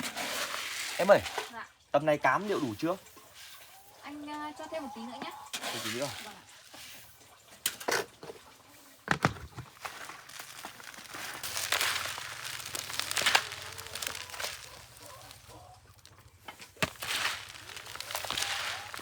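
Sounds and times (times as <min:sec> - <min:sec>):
rustling and scraping of feed: 0:00.0 - 0:19.0.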